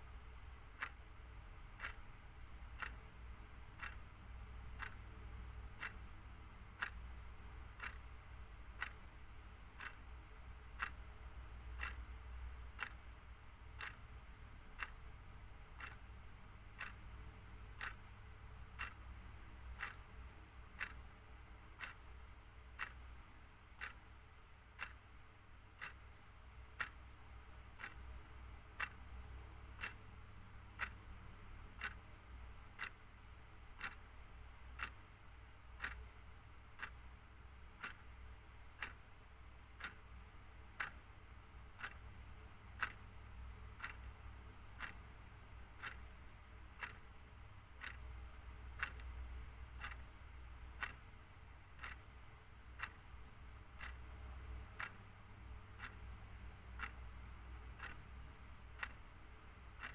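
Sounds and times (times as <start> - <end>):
clock ticking: 0.0 - 59.9
faint low hum: 0.0 - 59.9.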